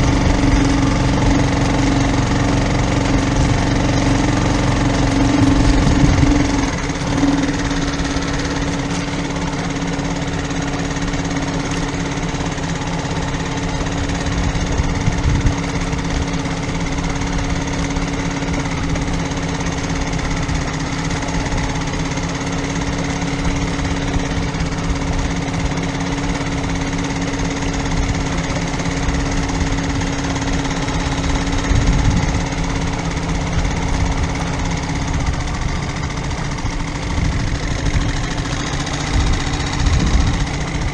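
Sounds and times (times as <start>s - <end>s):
boat diesel engine running: 0.0s - 40.9s.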